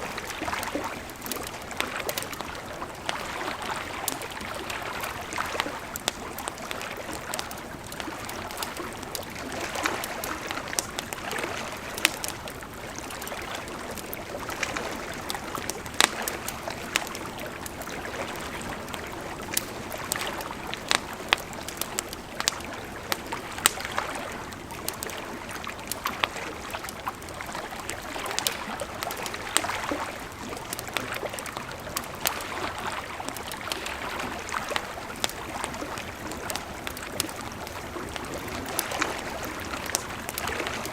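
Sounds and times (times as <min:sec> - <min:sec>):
campfire crackling and popping: 0:00.0 - 0:40.9
river flowing: 0:00.0 - 0:40.9.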